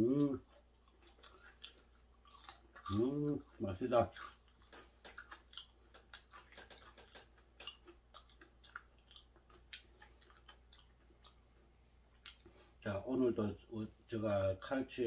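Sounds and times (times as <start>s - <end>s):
person chewing food: 0.0s - 12.8s.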